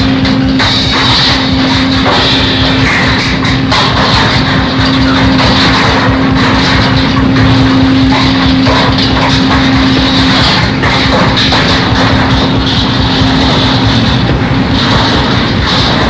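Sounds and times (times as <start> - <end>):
distorted noise wall: 0.0 - 16.0
steady droning tone: 0.0 - 16.0.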